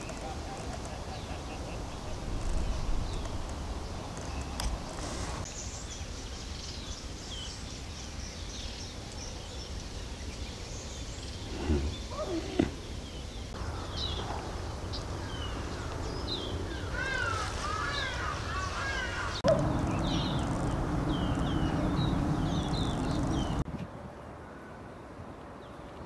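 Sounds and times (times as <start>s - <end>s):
wild birds calling and chirping: 0.0s - 23.6s.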